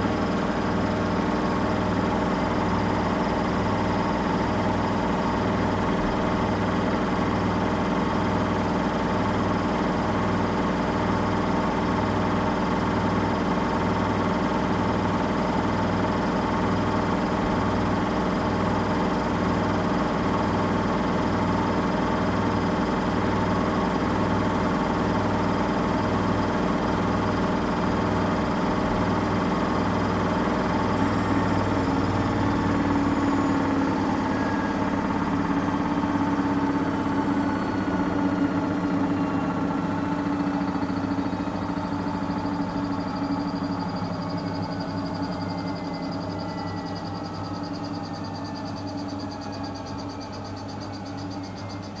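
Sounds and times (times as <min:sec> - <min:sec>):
washing machine humming: 0:00.0 - 0:52.0.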